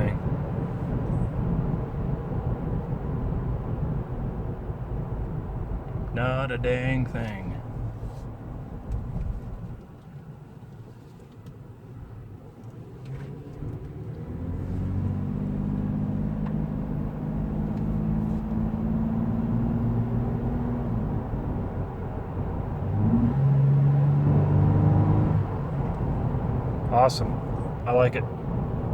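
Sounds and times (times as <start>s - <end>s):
car engine running while driving: 0.0s - 28.9s.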